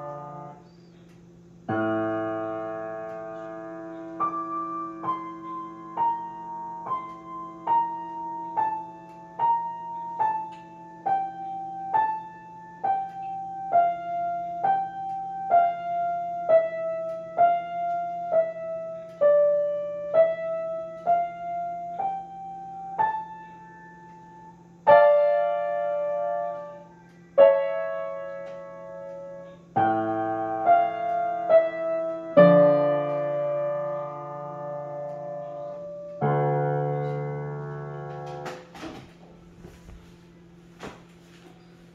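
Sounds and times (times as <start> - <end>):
grand piano: 0.0 - 40.5.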